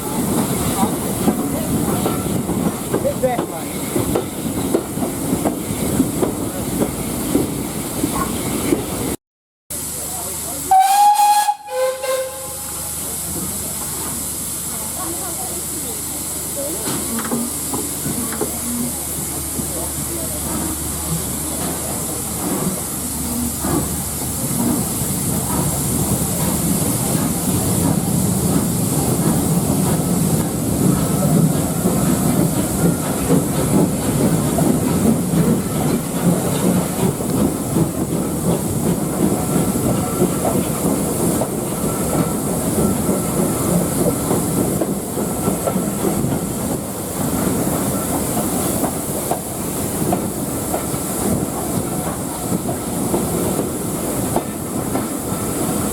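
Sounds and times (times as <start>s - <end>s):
train wheels clattering on rails: 0.0s - 9.2s, 16.4s - 55.9s
steam hiss: 9.7s - 55.9s.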